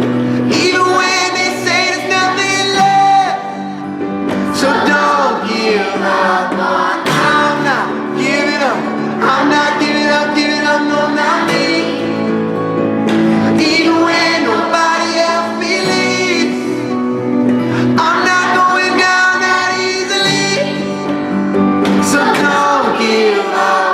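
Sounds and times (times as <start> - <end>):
guitar: 0.0 - 23.9
held instrument chords: 0.0 - 23.9
person singing: 0.0 - 23.9.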